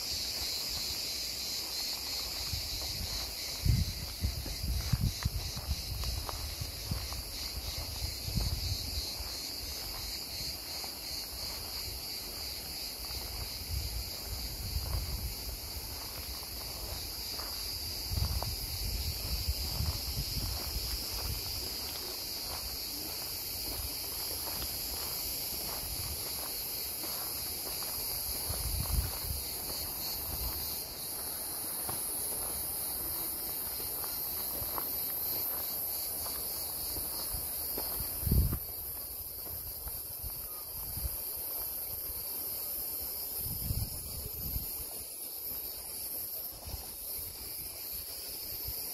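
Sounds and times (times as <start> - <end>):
cicadas droning: 0.0 - 48.9
footsteps on path: 0.0 - 48.9.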